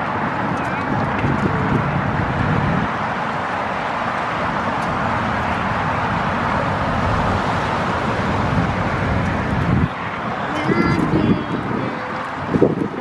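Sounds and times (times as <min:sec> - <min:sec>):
wind over microphone: 0:00.0 - 0:13.0.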